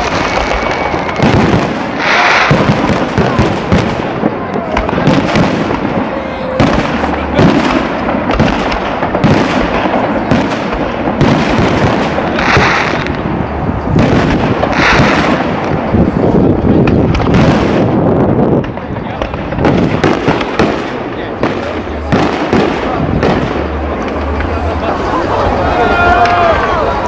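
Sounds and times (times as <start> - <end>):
fireworks banging: 0.0 - 27.0
hissing crackle of fireworks: 0.0 - 27.0.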